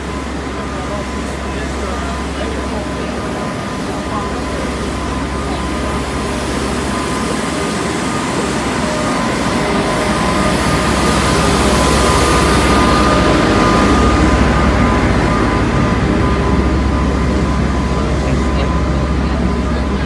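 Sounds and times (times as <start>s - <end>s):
tram rumbling past: 0.0s - 20.0s.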